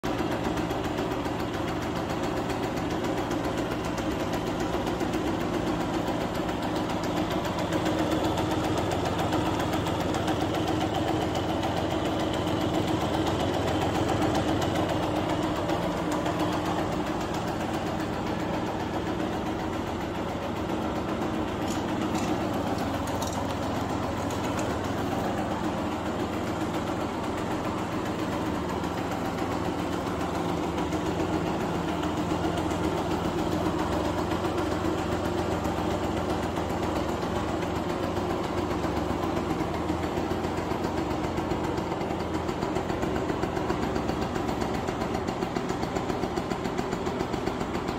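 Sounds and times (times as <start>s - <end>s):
two-stroke engine idling: 0.0s - 47.9s.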